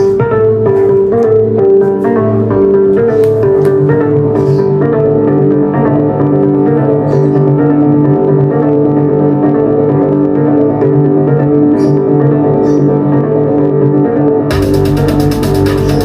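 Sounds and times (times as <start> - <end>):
piano and keyboard music: 0.0 - 16.0.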